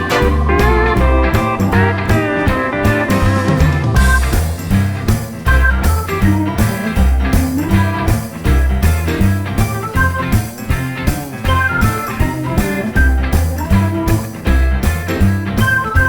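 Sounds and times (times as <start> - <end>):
rock music with guitar and drums: 0.0 - 16.0.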